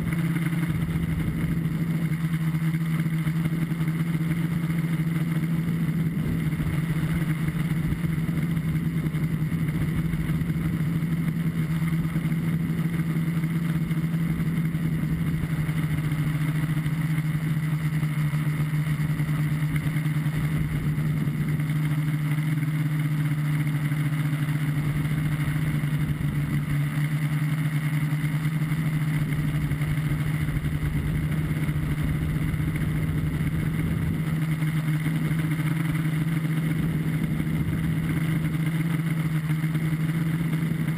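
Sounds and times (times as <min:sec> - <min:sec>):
drone motors and propellers droning: 0:00.0 - 0:40.9.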